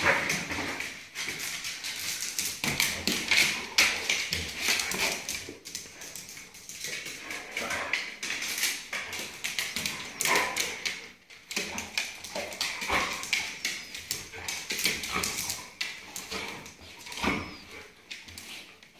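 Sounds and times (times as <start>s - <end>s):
dogs scuffling: 0.0s - 18.9s.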